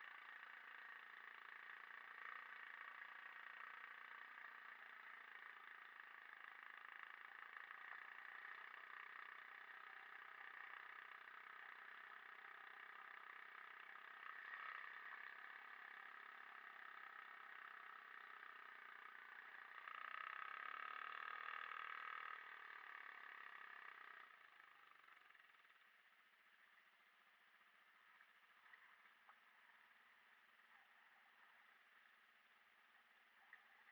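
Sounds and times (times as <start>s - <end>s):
faint motorcycle engine: 0.0s - 33.9s.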